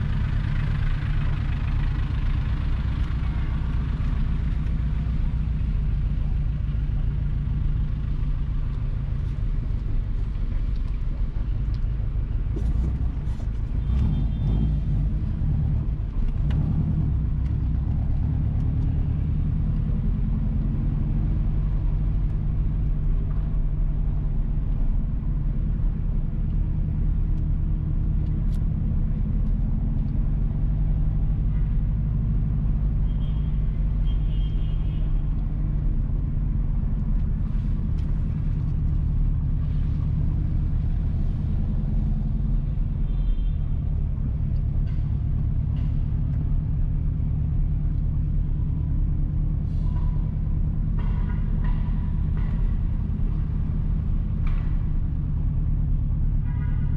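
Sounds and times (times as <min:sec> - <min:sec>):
car engine and tyres rumbling: 0:00.0 - 0:56.9.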